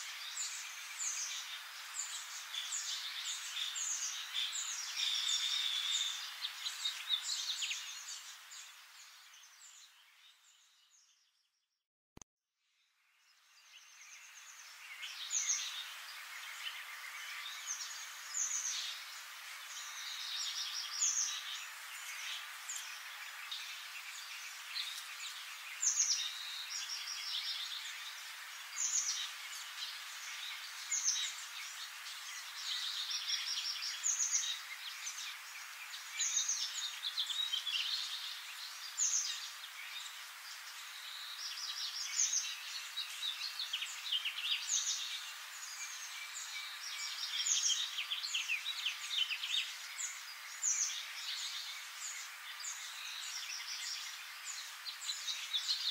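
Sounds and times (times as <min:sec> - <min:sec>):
small birds chirping: 0:00.0 - 0:11.6, 0:12.8 - 0:55.9.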